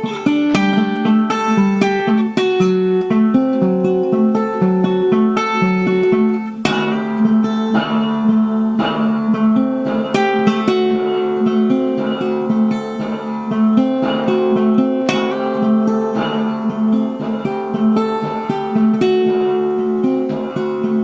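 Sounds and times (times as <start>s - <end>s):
plucked guitar with strummed chords: 0.0s - 21.0s.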